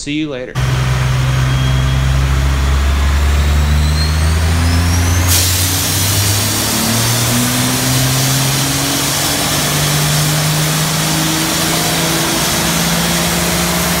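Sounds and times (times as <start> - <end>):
diesel engine revving: 0.6 - 14.0
fire extinguisher hissing: 0.6 - 14.0.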